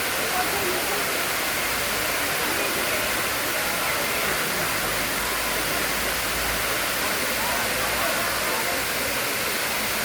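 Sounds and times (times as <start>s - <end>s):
waterfall: 0.0s - 10.0s.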